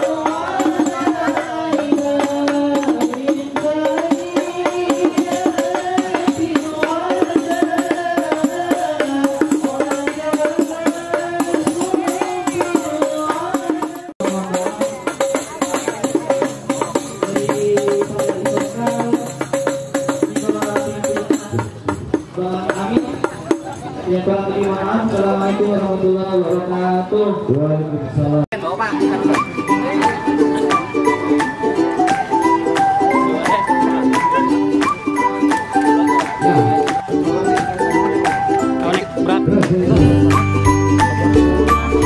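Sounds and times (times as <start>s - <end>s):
frame drums: 0.0s - 24.1s, 28.9s - 42.0s.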